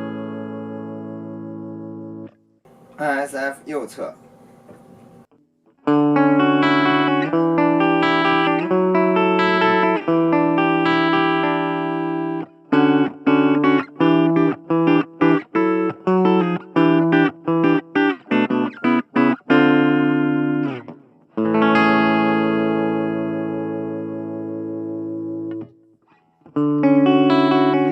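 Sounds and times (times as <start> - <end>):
clean electric guitar chords: 0.0 - 2.4, 5.4 - 27.9.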